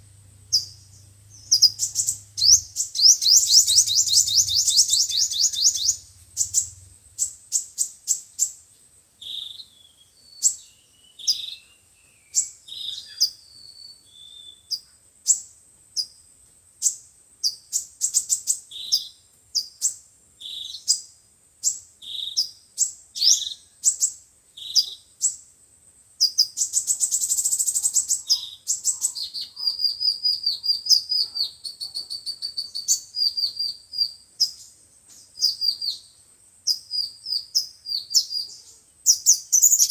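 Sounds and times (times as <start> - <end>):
sunbirds chirping and twittering: 0.0 - 39.9.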